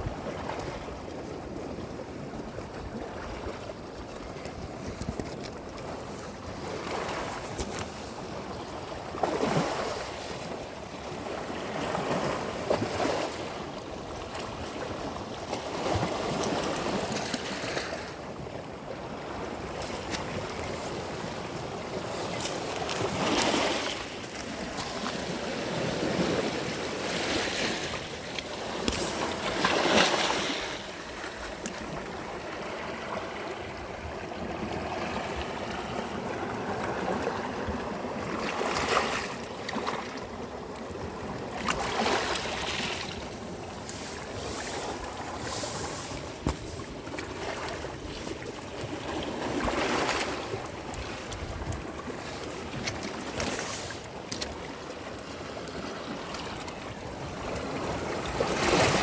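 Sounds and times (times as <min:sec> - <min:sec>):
waves washing on sandy beach: 0:00.0 - 0:59.0.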